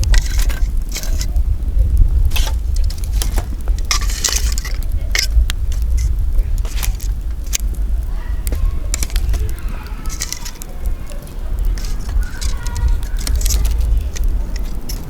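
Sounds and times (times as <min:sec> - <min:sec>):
campfire crackling and popping: 0:00.0 - 0:15.0
steady low rumble: 0:00.0 - 0:15.0.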